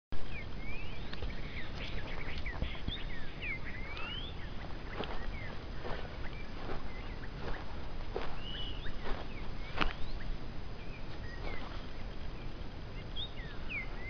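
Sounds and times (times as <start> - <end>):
birds chirping and whistling: 0.2 - 14.0
steady low rumble: 0.2 - 14.0.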